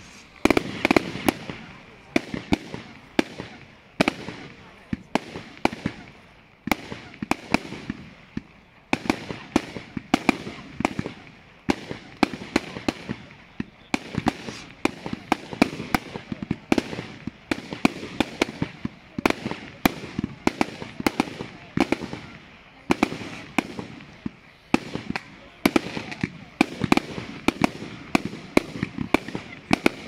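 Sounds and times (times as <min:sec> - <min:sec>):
fireworks cracking and popping: 0:00.0 - 0:30.0.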